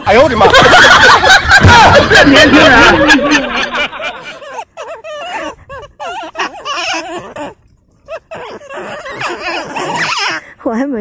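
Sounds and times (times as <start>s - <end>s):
marmots squealing: 0.0s - 10.6s.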